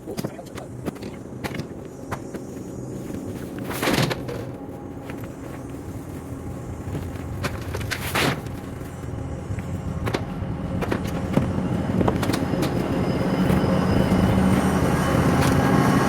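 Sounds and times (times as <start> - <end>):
heavy machine engine running: 2.7 - 16.0.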